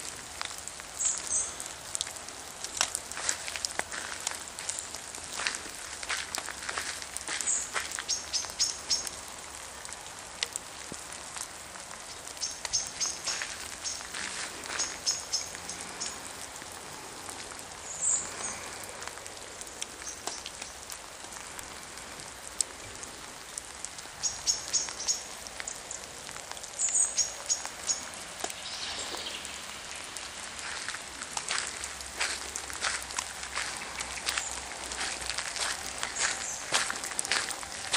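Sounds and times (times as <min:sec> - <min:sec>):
steady rain falling: 0:00.0 - 0:37.9.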